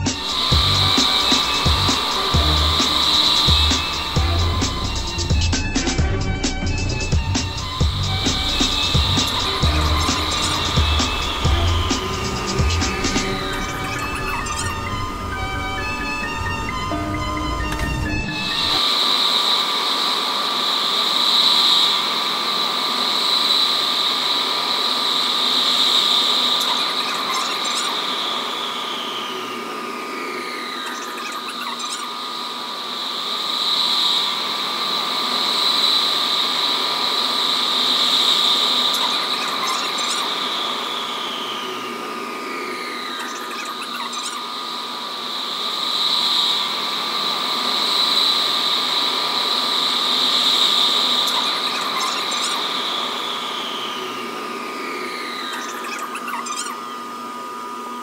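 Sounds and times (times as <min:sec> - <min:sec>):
metro train electric whine: 0:00.0 - 0:31.6, 0:32.2 - 0:58.0.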